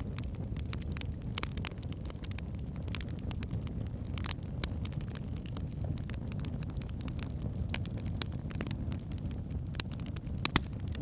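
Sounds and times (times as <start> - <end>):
flames rumbling: 0.0 - 11.0
logs crackling and popping: 0.0 - 11.0.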